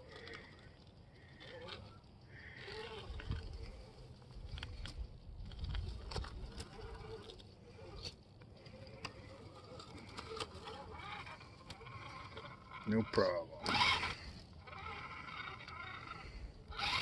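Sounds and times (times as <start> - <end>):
small electric motor whine: 0.0 - 17.0.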